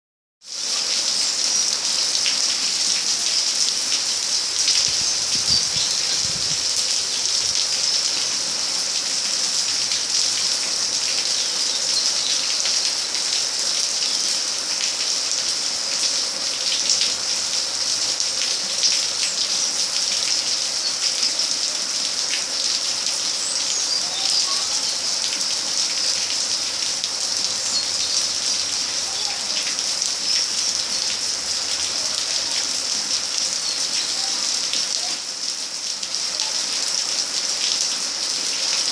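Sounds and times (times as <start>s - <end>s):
steady rain falling: 0.5s - 38.9s.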